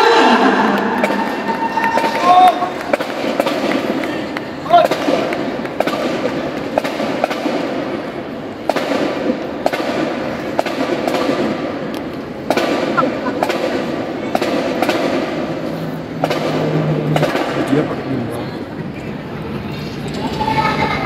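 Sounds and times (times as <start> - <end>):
drumline drum hits: 0.0 - 18.0.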